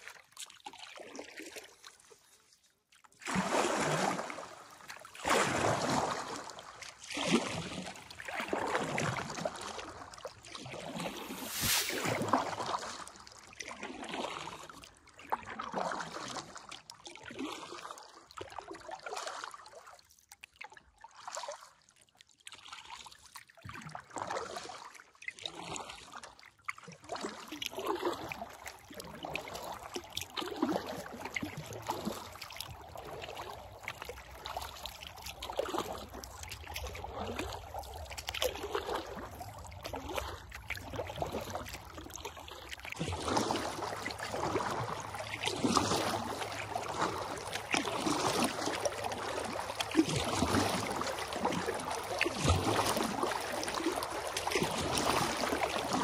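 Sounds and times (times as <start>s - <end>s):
water trickling off paddle: 0.0s - 17.5s, 26.6s - 56.0s
kayak paddle splashing: 0.0s - 19.8s, 22.6s - 56.0s.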